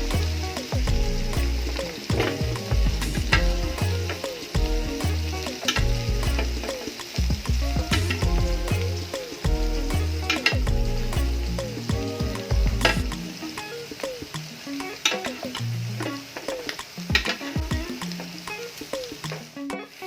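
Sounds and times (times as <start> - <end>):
background music with beat: 0.0 - 19.9
pork chops sizzling in pan: 0.0 - 20.0.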